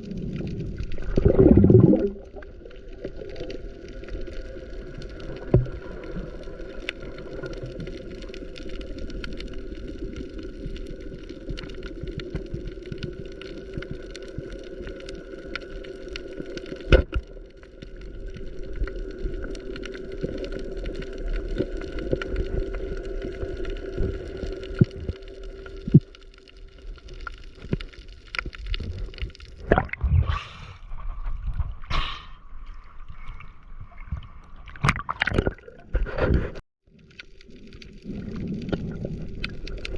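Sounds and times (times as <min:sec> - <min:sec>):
gurgling water and bubbles: 0:00.0 - 0:39.9.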